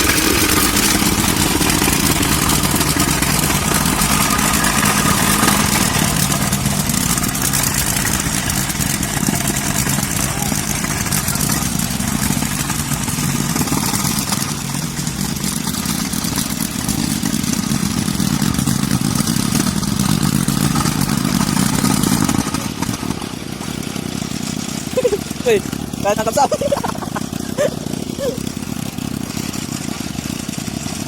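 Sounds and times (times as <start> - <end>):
soil compactor engine pulsing: 0.0 - 31.0.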